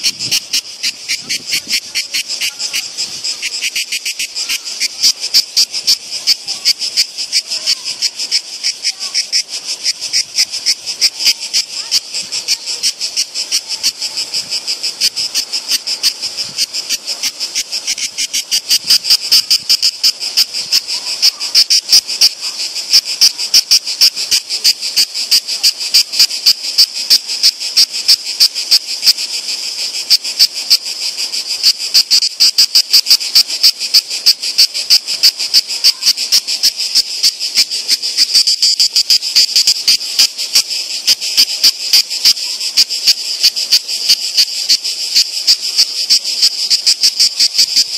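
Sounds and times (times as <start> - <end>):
cicadas pulsing buzz: 0.0 - 47.9.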